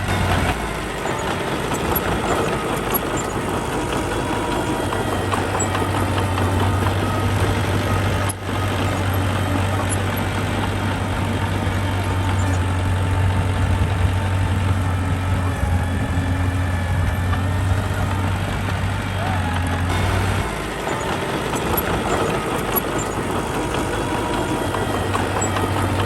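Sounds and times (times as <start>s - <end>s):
diesel engine humming: 0.0s - 26.0s.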